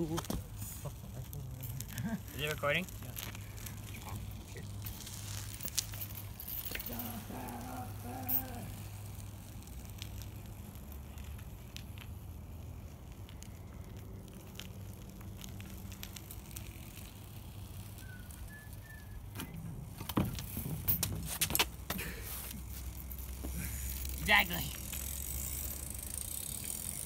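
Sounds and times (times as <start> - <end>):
bike riding on asphalt: 0.0 - 27.0.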